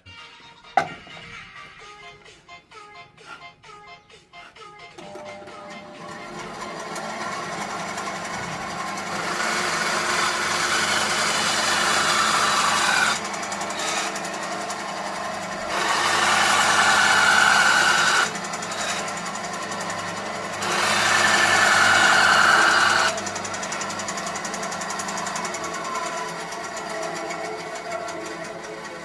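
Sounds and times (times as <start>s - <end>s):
band saw motor running: 5.0s - 29.0s.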